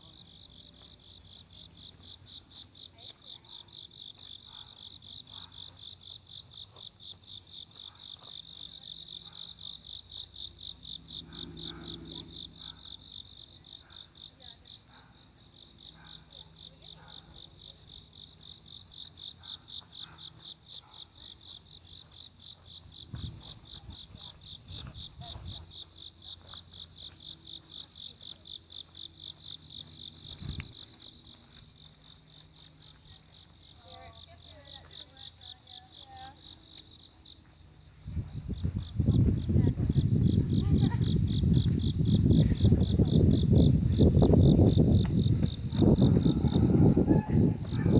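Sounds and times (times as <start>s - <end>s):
faint low hum: 0.0s - 47.9s
insects chirping: 0.0s - 47.9s.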